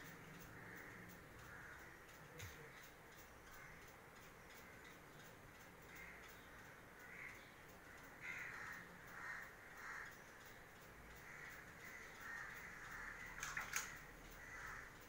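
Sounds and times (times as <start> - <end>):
faint crows cawing: 0.0 - 15.0.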